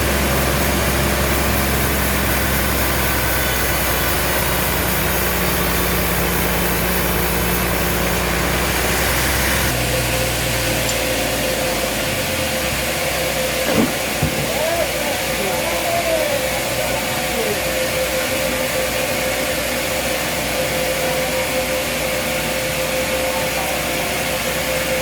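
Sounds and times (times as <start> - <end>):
large engine humming: 0.0 - 25.0.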